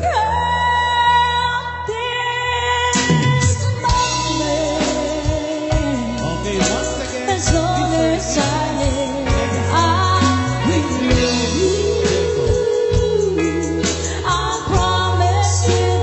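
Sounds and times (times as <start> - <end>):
bass line: 0.0 - 16.0
keyboard: 0.0 - 16.0
women singing: 0.0 - 16.0.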